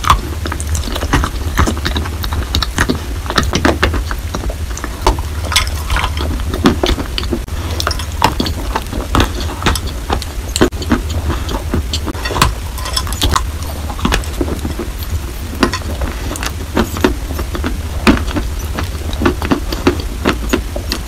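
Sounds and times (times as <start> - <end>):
chewing crunchy chalk: 0.0 - 21.0
steady low hum: 0.0 - 21.0.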